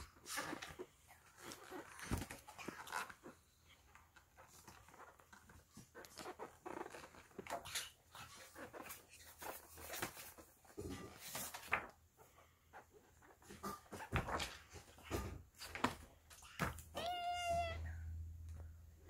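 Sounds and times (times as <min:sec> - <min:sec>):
picture book pages rustling: 0:00.0 - 0:16.8.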